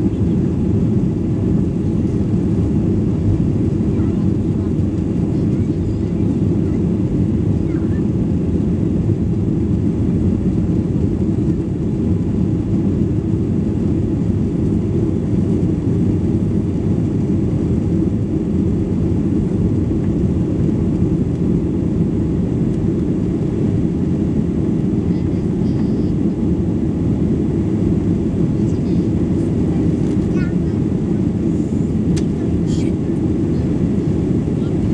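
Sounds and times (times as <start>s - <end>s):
jet engine rumble in cabin: 0.0s - 34.9s.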